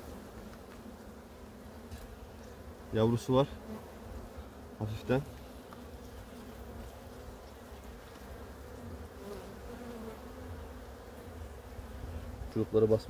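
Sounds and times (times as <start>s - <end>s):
bees buzzing in a hive: 0.0s - 13.0s.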